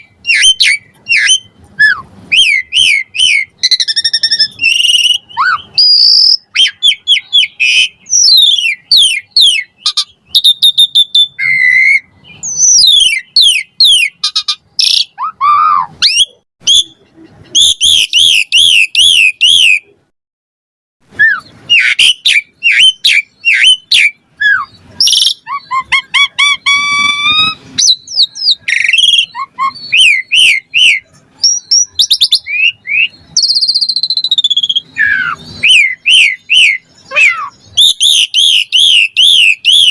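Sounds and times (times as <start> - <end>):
starling singing whistles: 0.0 - 19.9, 21.1 - 39.9.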